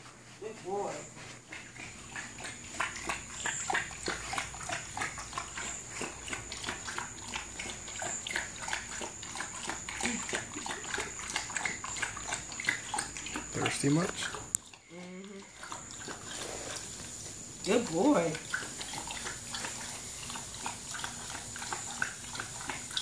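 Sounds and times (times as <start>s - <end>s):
dog lapping water from metal bowl: 1.4s - 23.0s.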